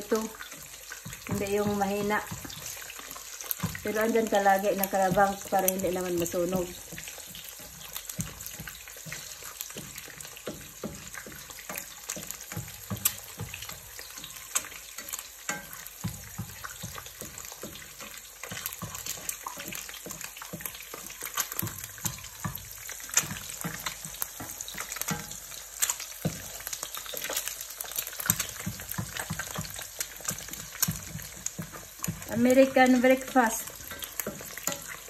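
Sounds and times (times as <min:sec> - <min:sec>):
eggs sizzling in oil: 0:00.0 - 0:35.0
oil popping: 0:00.0 - 0:35.0.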